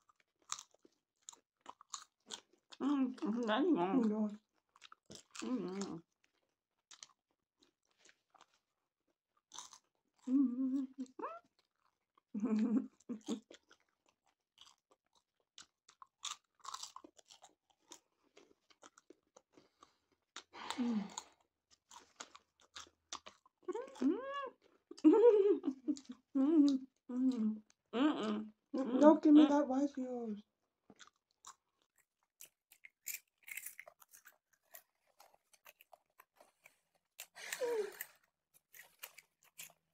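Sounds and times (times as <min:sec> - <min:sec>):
popcorn being chewed: 0:00.0 - 0:29.1, 0:30.8 - 0:39.9.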